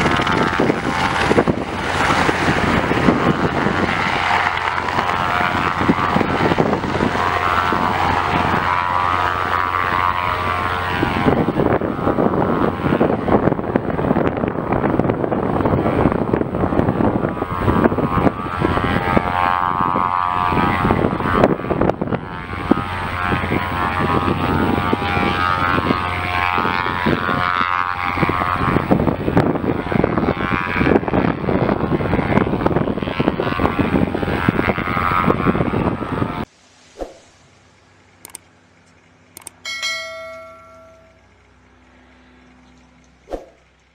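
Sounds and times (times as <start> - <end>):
helicopter engine whine: 0.0 - 43.9
helicopter rotor chop: 0.0 - 43.9.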